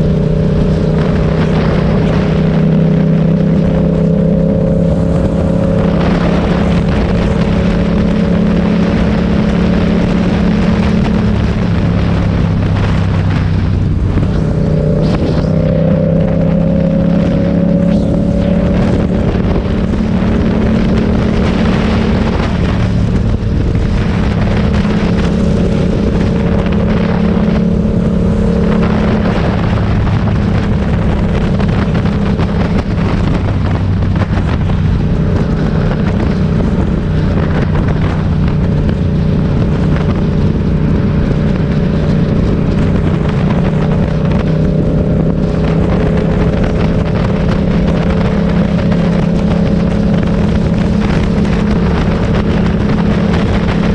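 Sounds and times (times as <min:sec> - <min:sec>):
motorcycle engine running: 0:00.0 - 0:53.9
wind noise on microphone: 0:00.0 - 0:53.9.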